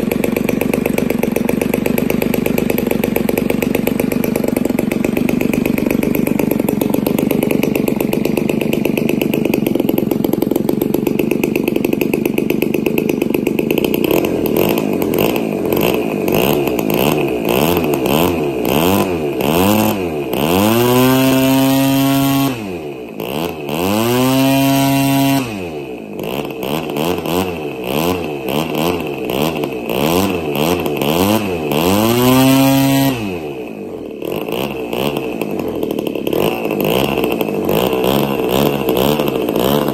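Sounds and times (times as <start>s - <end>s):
two-stroke engine spinning propeller: 0.0s - 39.9s.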